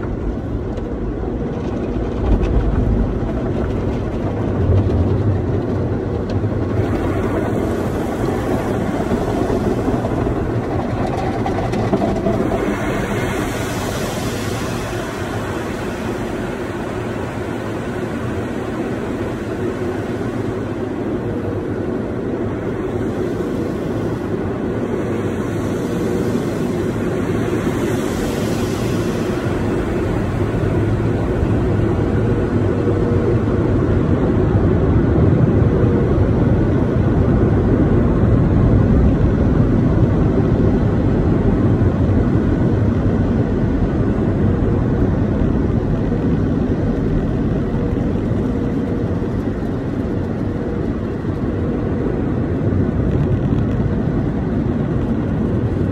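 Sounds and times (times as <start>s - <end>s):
car wash water spraying and machinery: 0.0s - 55.9s.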